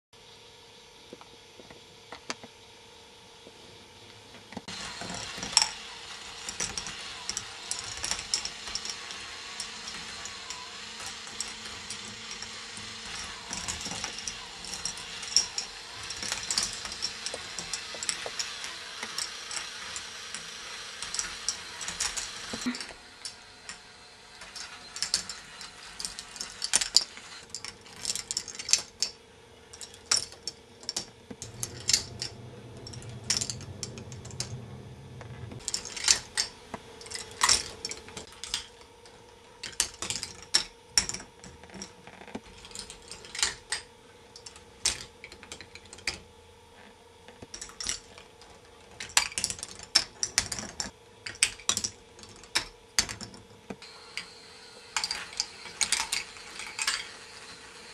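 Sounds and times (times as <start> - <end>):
faint motor hum: 0.2 - 57.9
small balls clattering on plastic tracks: 4.5 - 46.3, 47.2 - 57.9.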